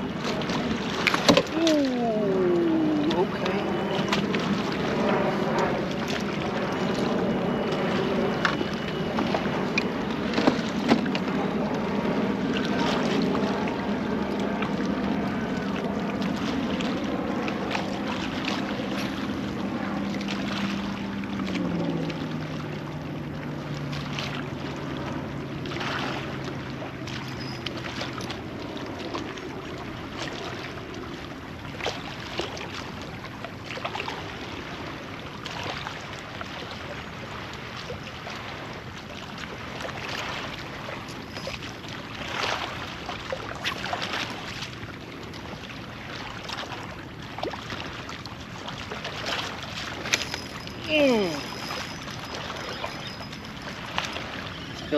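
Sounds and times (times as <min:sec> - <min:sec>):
boat motor humming: 0:00.0 - 0:54.9
water noise: 0:00.0 - 0:54.9.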